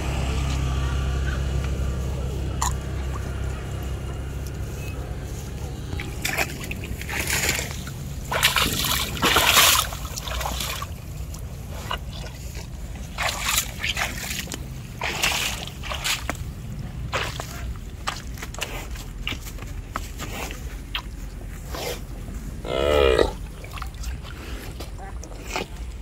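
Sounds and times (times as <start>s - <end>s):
steady low rumble: 0.0s - 26.0s
cow splashing in muddy water: 1.8s - 26.0s.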